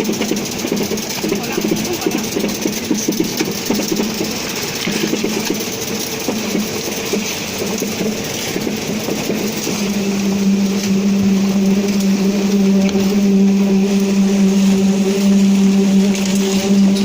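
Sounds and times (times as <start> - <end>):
concrete pump clattering: 0.0 - 17.0
steady drone: 0.0 - 17.0.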